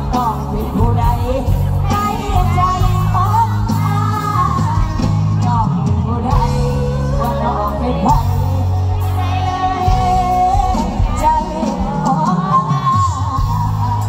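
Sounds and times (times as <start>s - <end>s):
live band music: 0.0s - 14.0s
person singing: 0.0s - 14.0s
steady bass line: 0.0s - 14.0s.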